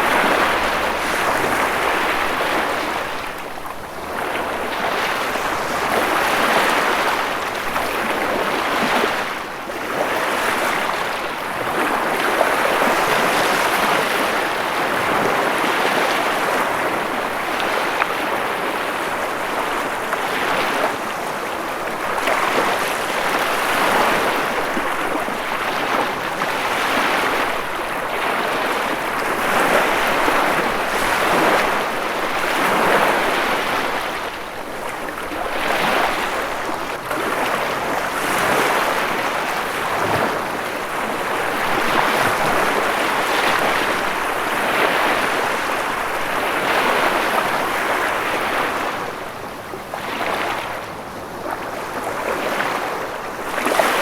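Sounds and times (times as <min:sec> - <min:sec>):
ocean waves on shore: 0:00.0 - 0:54.0.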